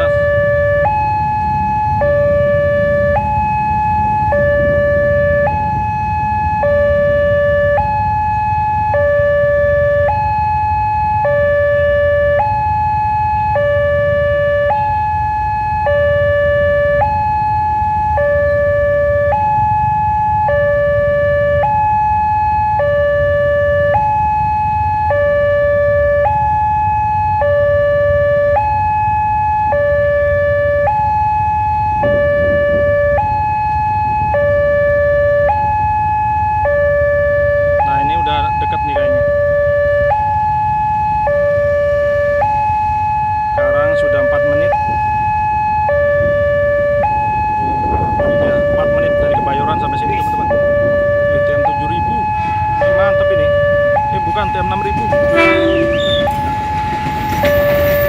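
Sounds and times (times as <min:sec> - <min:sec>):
low rumble of motorbike traffic: 0:00.0 - 0:58.0
two-tone level crossing alarm: 0:00.0 - 0:58.0.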